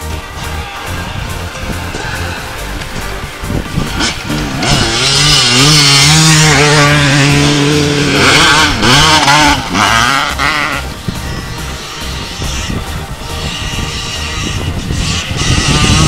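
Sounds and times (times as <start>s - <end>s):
background music with a beat: 0.0s - 16.0s
dirt bike engine revving: 0.0s - 16.0s.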